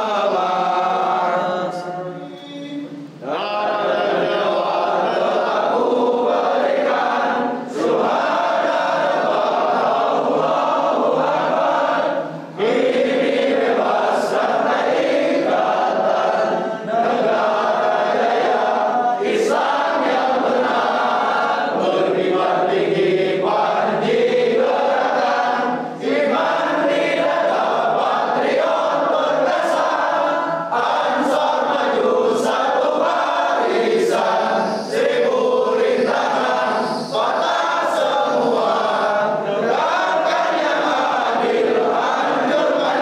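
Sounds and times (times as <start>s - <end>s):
group of men singing in unison: 0.0s - 43.0s.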